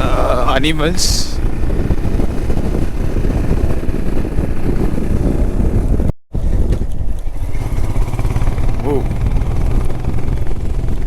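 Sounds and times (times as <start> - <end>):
road vehicle low rumble: 0.0 - 11.0
wind buffeting microphone: 0.0 - 11.0.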